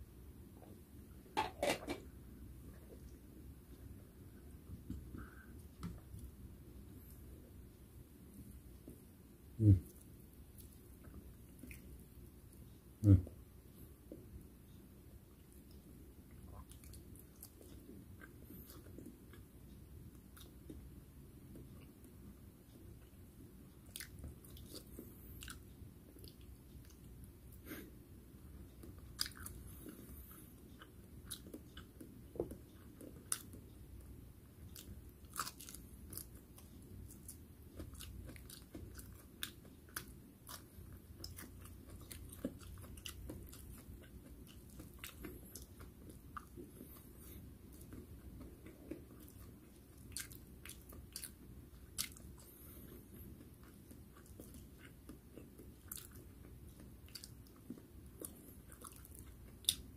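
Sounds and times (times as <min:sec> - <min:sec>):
person chewing food: 0:02.6 - 0:07.8, 0:08.5 - 0:14.3, 0:15.2 - 0:59.9.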